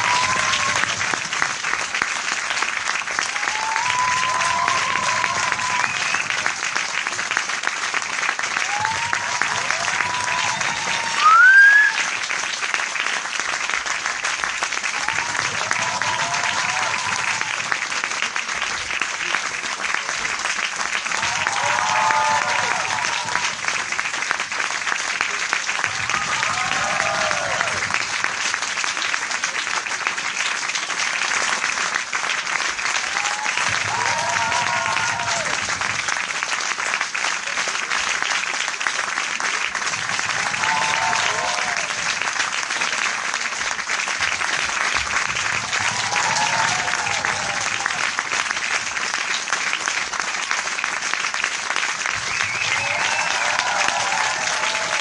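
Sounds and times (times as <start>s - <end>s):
crowd applauding: 0.0s - 55.0s.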